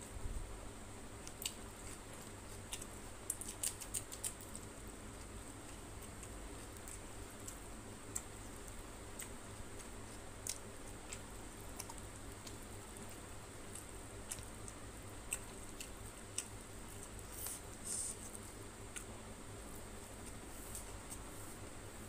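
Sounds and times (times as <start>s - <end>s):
faint hum: 0.0s - 22.0s
wet chewing and mixing squishes: 1.1s - 21.2s.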